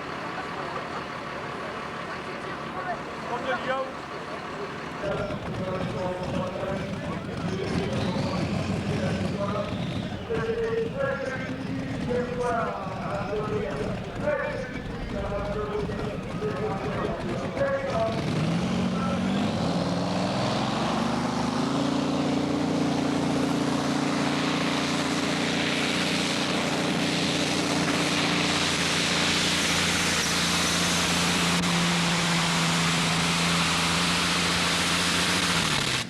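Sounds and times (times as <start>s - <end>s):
tractor engine under load: 0.0s - 36.0s.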